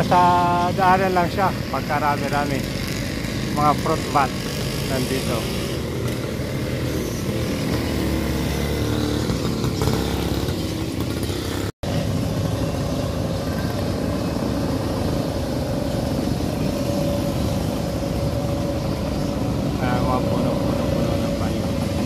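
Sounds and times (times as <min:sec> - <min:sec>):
motorcycle engines passing: 0:00.0 - 0:22.0.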